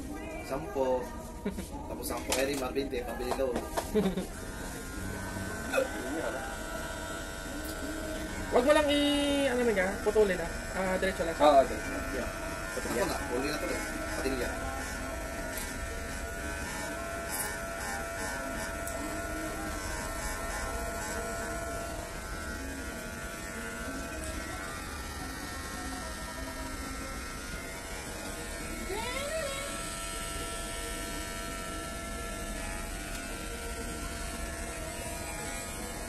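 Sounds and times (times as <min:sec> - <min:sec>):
hair clipper buzzing: 0:02.0 - 0:36.0.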